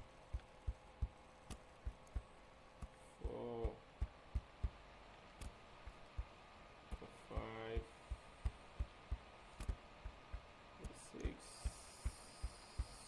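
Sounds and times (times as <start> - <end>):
dull low thumps: 0.0 - 4.8, 5.8 - 13.0.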